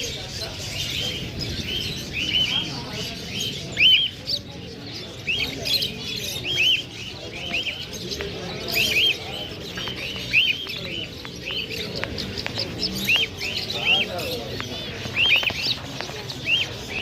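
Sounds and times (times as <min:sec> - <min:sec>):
caged birds chirping: 0:00.0 - 0:17.0.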